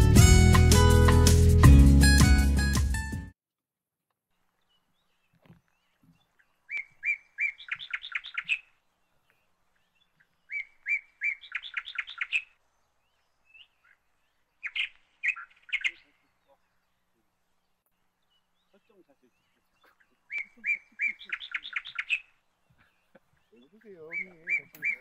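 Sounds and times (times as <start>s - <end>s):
songbird singing: 4.3s - 25.0s.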